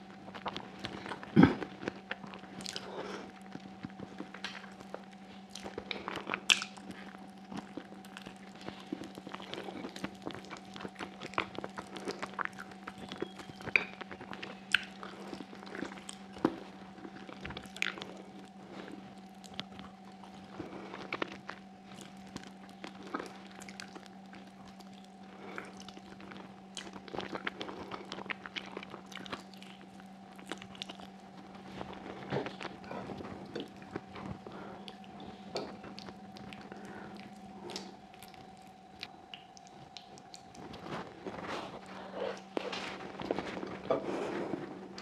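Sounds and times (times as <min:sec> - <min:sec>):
faint hum: 0:00.0 - 0:45.0
wet chewing and lip smacking: 0:00.1 - 0:43.8.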